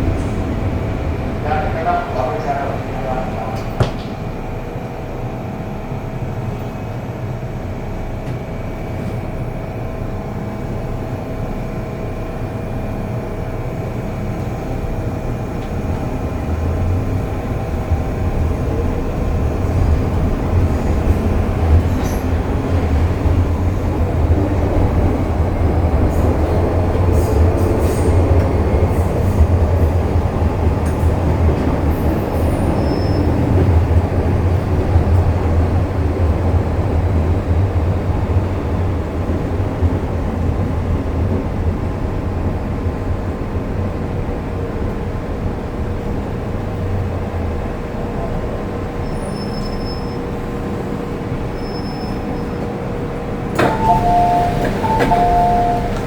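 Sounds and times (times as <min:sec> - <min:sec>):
train wheels rumbling: 0:08.2 - 0:56.0.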